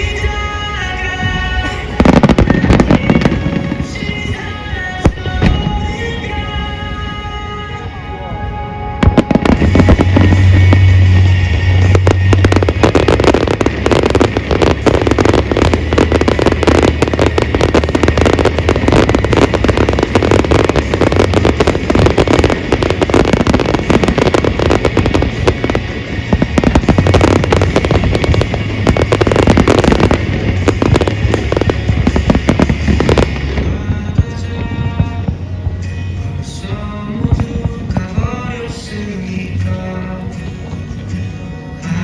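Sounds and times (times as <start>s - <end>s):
fireworks bangs and crackles: 0.0s - 42.0s
music playing: 0.0s - 42.0s.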